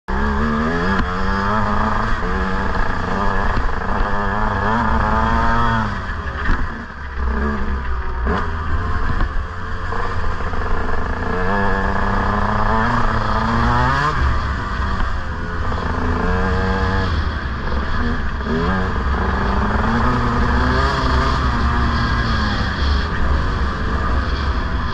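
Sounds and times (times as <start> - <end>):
dirt bike engine revving: 0.1 - 24.9.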